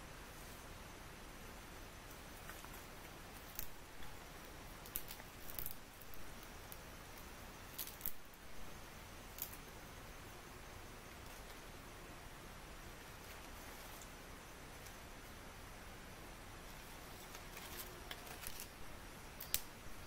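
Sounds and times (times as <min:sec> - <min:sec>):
faint hiss: 0:00.0 - 0:20.0
campfire crackling: 0:01.5 - 0:20.0.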